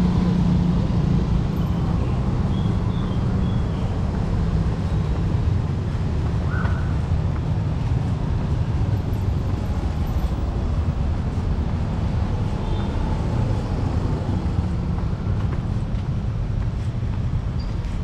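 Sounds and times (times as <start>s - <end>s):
street ambience low rumble: 0.0s - 18.0s.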